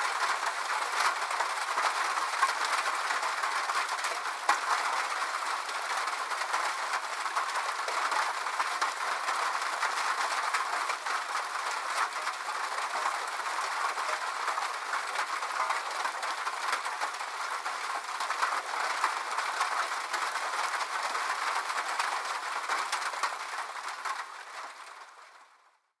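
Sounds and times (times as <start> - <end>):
rain on a metal roof: 0.0 - 25.8.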